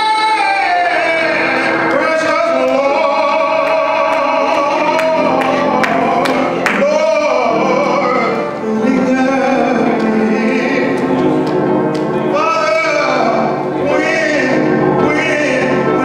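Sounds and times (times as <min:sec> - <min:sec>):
man singing through sound system: 0:00.0 - 0:16.0.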